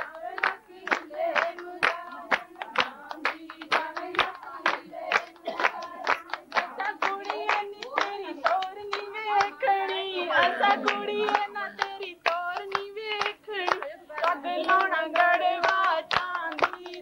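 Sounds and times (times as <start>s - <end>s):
group hand-clapping: 0.0s - 17.0s
women singing: 0.0s - 17.0s.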